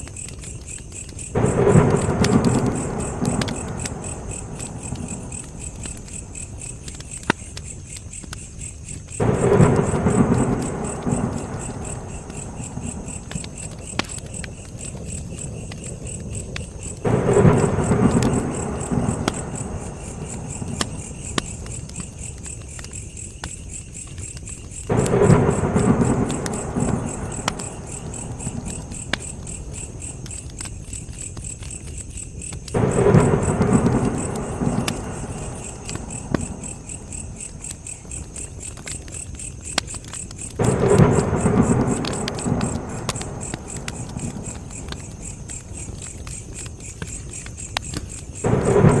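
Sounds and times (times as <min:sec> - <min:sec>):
campfire crackling and popping: 0:00.0 - 0:49.0
crickets chirping: 0:00.0 - 0:49.0.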